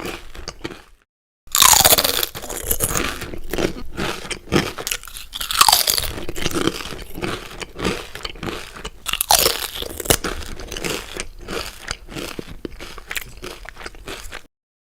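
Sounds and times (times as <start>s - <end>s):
chewing crunchy food: 0.0s - 14.5s.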